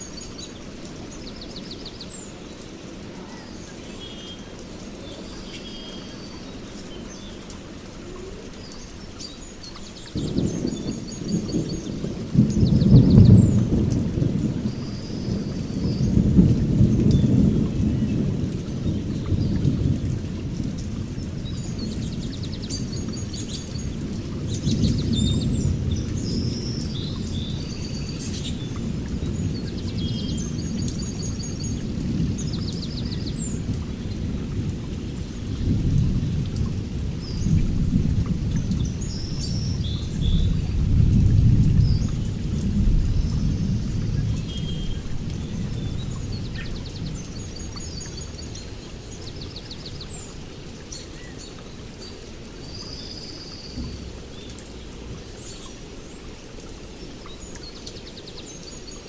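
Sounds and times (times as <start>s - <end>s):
small birds chirping: 0.0s - 20.0s, 20.6s - 35.6s, 38.6s - 59.0s.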